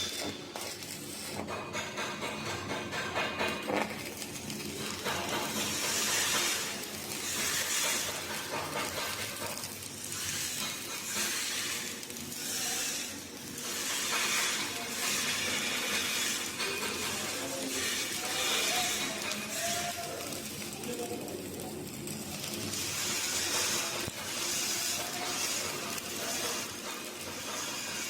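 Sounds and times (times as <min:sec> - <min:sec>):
welding arc crackling: 0:00.0 - 0:28.0.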